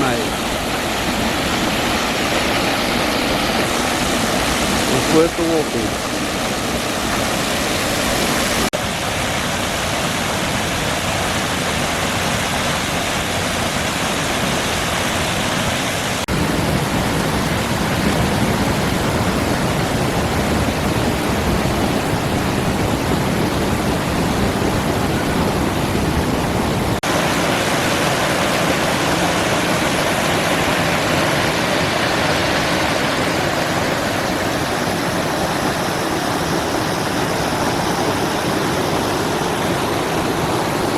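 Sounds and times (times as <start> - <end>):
waterfall rushing over rocks: 0.0 - 40.9.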